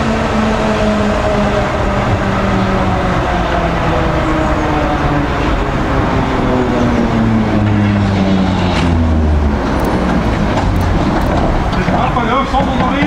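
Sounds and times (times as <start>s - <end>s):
electric tram motor hum: 0.0s - 13.0s.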